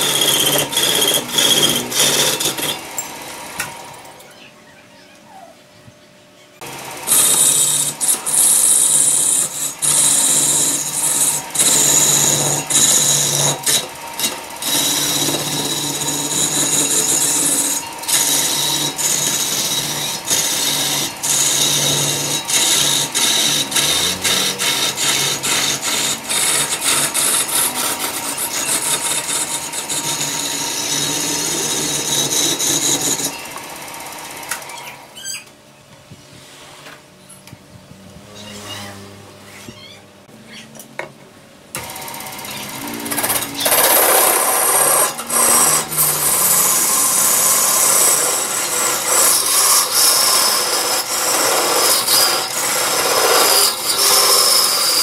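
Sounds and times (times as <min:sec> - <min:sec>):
tool scraping wood on lathe: 0:00.0 - 0:03.8, 0:06.6 - 0:33.6, 0:41.8 - 0:55.0
lathe humming: 0:00.0 - 0:04.1, 0:06.6 - 0:34.7, 0:41.7 - 0:55.0.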